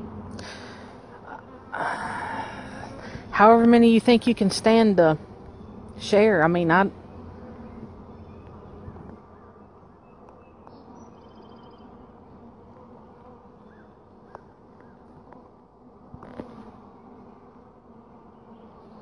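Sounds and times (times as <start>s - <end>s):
honeybees humming: 0.0s - 19.0s.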